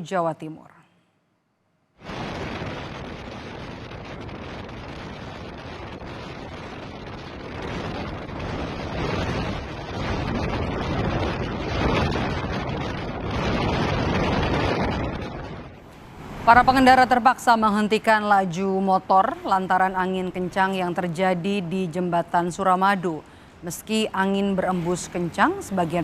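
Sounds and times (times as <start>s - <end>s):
gusty wind on microphone: 2.0s - 26.0s.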